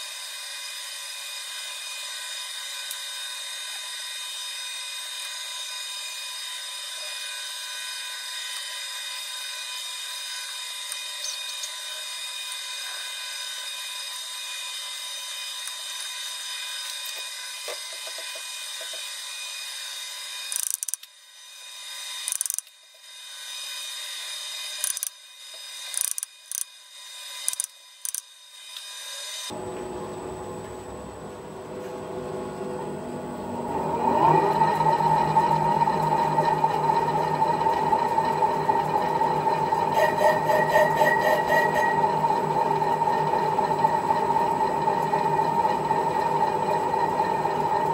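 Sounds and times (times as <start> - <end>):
high-pitched machine hum: 0.0 - 47.9.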